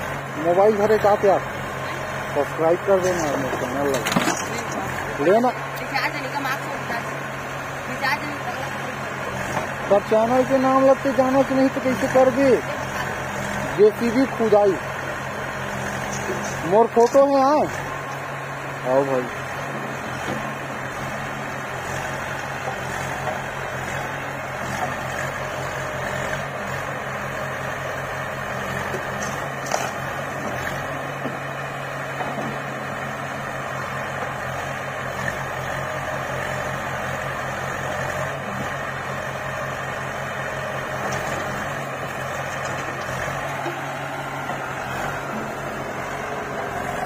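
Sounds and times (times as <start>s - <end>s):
diesel engine idling: 0.0s - 47.0s.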